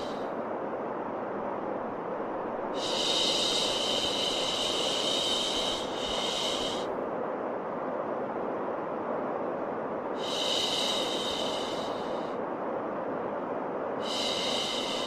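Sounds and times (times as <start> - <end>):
white noise: 0.0 - 15.0.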